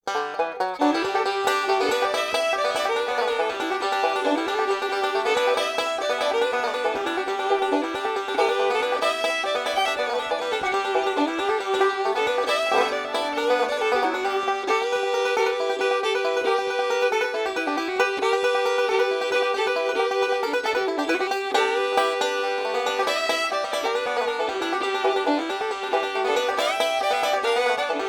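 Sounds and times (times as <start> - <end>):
bluegrass banjo music: 0.0 - 28.0.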